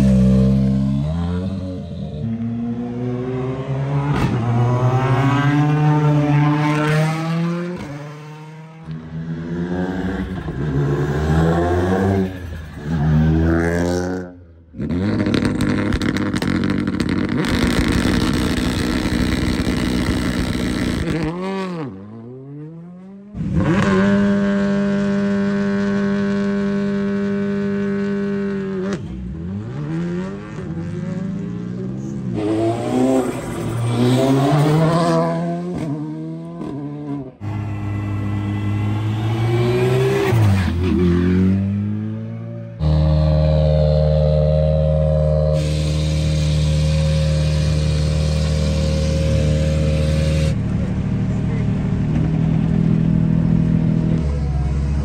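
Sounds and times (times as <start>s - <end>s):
rally car engines accelerating: 0.0s - 55.0s.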